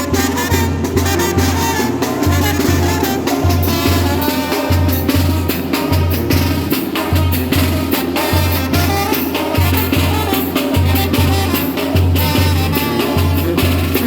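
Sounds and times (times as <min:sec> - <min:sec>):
brass band playing latin tune: 0:00.0 - 0:14.0
drums: 0:00.0 - 0:14.0.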